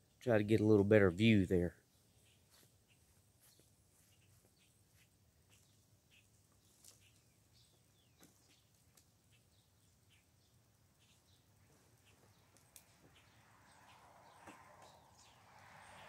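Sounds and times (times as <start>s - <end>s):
faint bird chirps: 1.8s - 16.0s.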